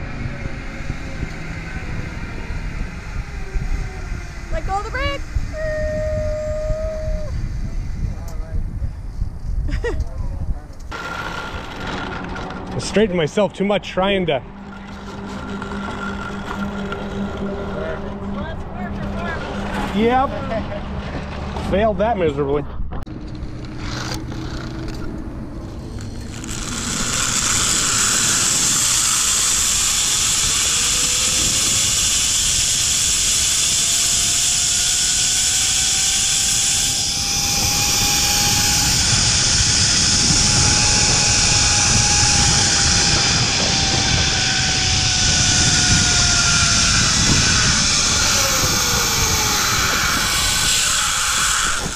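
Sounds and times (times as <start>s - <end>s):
zip line trolley rushing on cable: 0.0s - 8.1s, 10.9s - 21.4s, 23.3s - 51.9s
thin rising whine: 0.0s - 8.9s, 10.8s - 51.9s.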